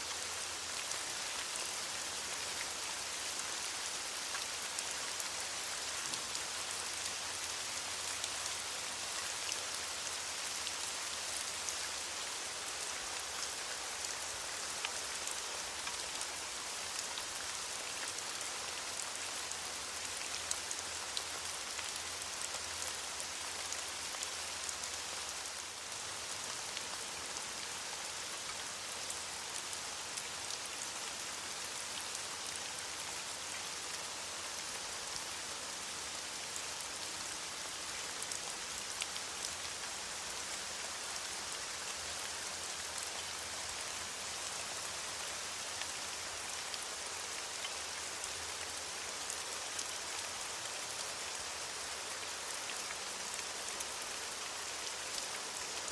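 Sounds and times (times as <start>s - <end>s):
rain falling on leaves: 0.0s - 55.9s.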